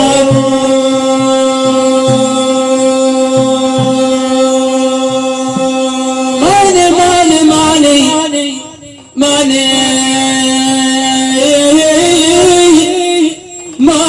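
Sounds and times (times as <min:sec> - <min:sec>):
person singing: 0:00.0 - 0:14.0
soft low drum beats: 0:00.0 - 0:14.0.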